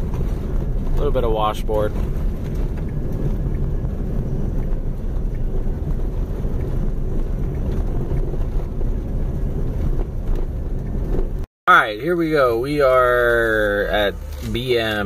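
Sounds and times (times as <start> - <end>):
car engine: 0.0 - 15.0
tyres rumbling on sand: 0.0 - 15.0.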